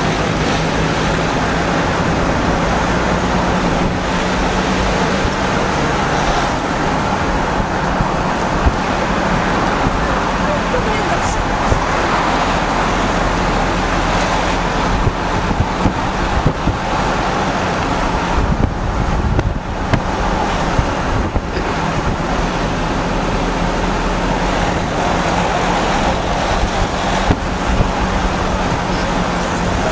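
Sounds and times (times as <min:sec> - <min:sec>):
vehicle engine and road noise: 0:00.0 - 0:29.9
wind on microphone: 0:00.0 - 0:29.9.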